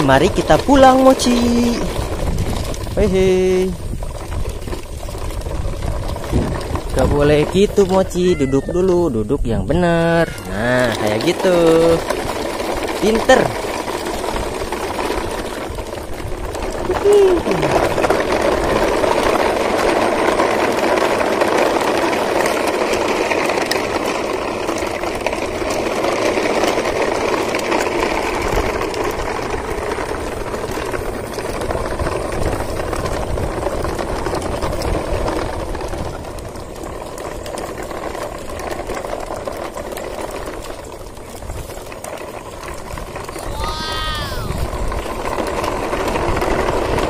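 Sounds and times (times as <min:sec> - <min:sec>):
plastic wheels rattling on concrete: 0:00.0 - 0:47.0.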